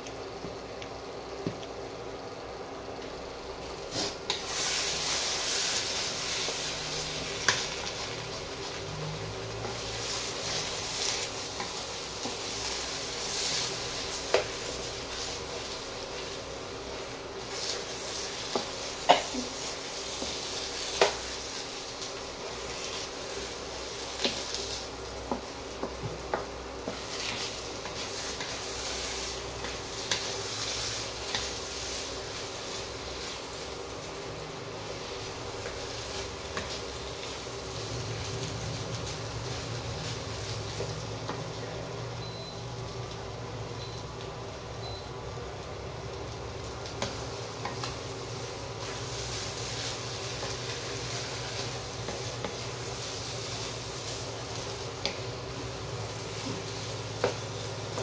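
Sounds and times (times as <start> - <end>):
eggs sizzling in a wok: 0.0 - 58.0.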